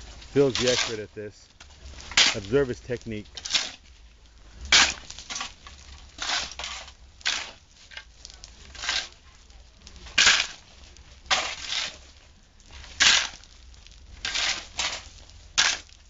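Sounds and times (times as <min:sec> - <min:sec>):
shovels scraping sand and cement: 0:00.0 - 0:09.2, 0:09.9 - 0:16.0.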